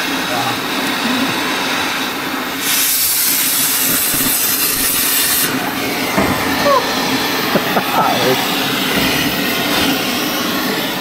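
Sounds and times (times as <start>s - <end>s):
cutting torch oxygen jet hissing: 0.0s - 11.0s
torch flame rushing: 0.0s - 11.0s.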